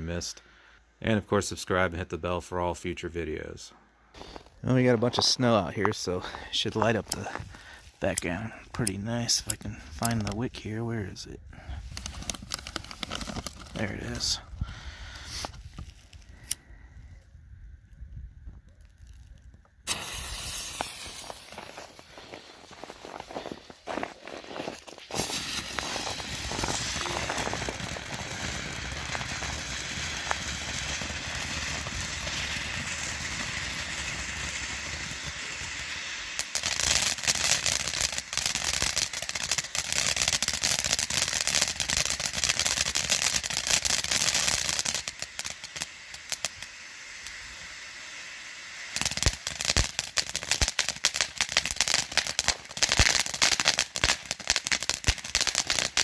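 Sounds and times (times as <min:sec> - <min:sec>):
firework fountain hissing: 0:04.1 - 0:16.6, 0:19.8 - 0:56.0
firework crackling: 0:04.1 - 0:16.7, 0:18.6 - 0:56.0.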